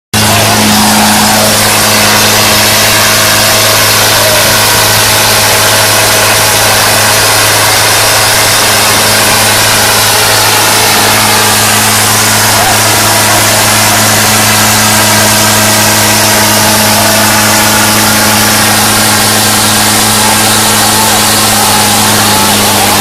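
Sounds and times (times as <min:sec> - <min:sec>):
tractor diesel engine running: 0:00.1 - 0:23.0.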